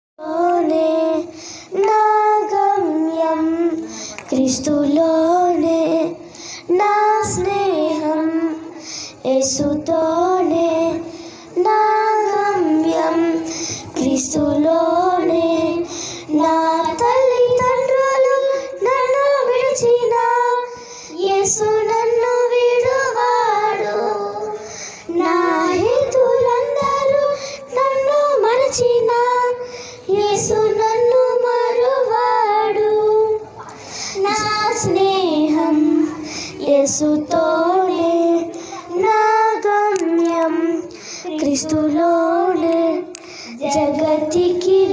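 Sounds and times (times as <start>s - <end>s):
girls singing into microphones: 0.2s - 44.9s.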